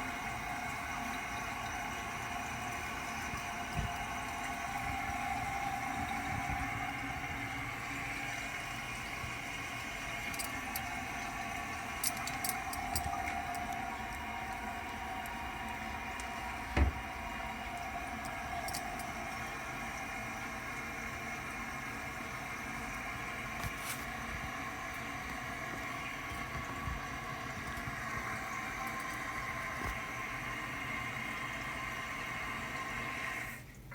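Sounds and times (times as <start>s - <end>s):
toilet cistern refilling: 0.0s - 33.9s.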